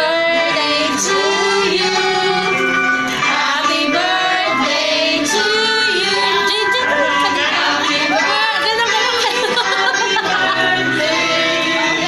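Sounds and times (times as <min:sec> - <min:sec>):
several voices singing: 0:00.0 - 0:12.0.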